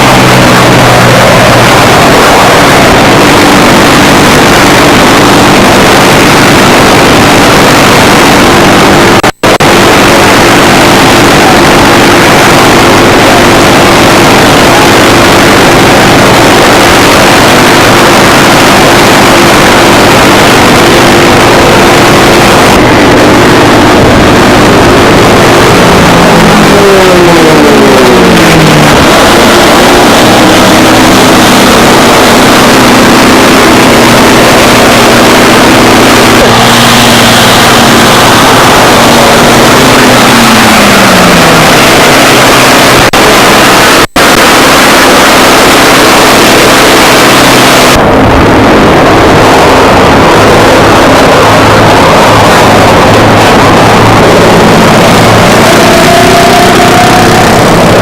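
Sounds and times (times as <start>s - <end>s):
aircraft piston engine drone: 0.0s - 58.0s.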